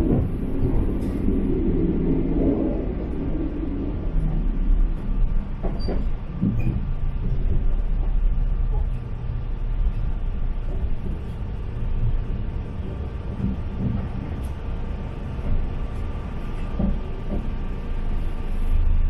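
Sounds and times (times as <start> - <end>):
track knocks and clicks: 0.0 - 18.2
train rumbling: 0.0 - 19.0.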